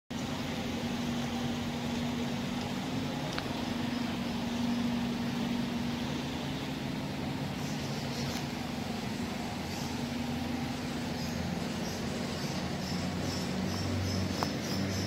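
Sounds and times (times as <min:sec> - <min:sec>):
bus engine droning: 0:00.1 - 0:15.0.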